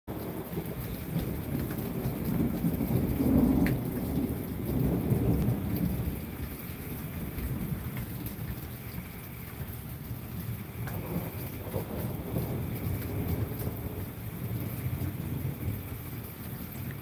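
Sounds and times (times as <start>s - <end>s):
thunder rolling: 0.1s - 17.0s.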